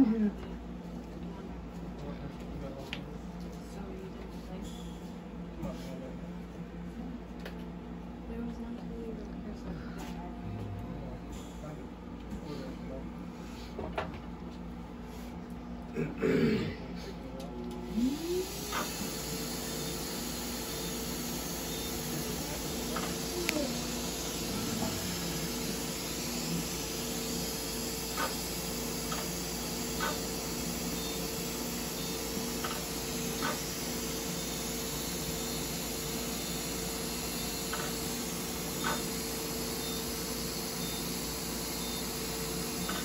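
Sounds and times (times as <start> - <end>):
machine hum: 6.8 - 43.0.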